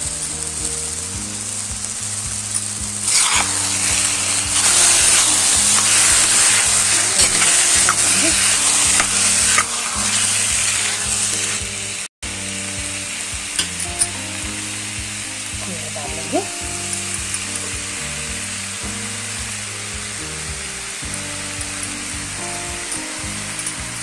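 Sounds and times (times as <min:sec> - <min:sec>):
carrot sizzling in pan: 0:00.0 - 0:24.0.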